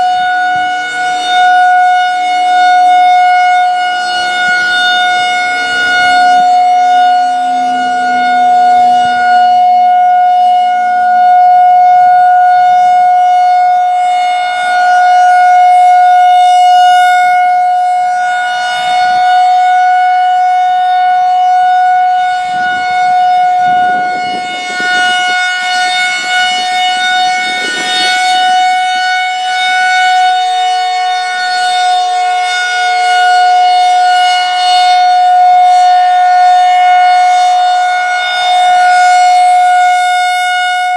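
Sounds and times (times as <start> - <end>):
tornado warning siren tone: 0.0 - 40.9.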